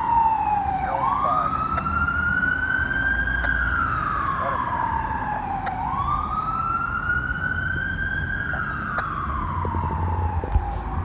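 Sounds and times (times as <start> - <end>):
fire truck siren wailing: 0.0 - 11.0.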